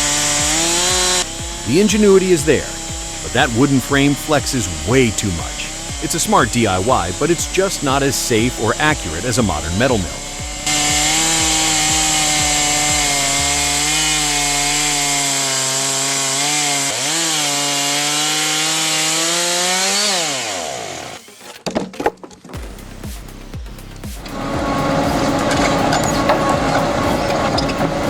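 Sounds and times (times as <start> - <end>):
chainsaw cutting through log: 0.0 - 21.8, 22.6 - 28.0.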